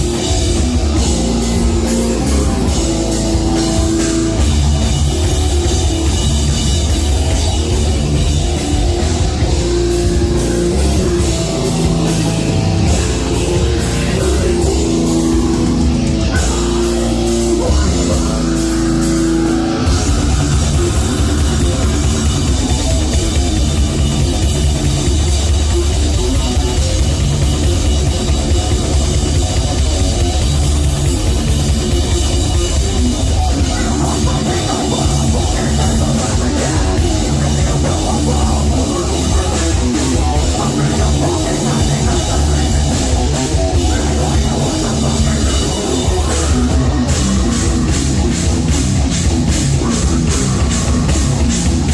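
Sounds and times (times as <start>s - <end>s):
heavy metal band playing: 0.0s - 51.9s.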